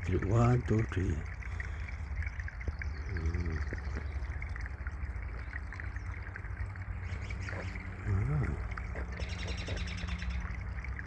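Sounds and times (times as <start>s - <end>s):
trickling water: 0.0s - 11.0s.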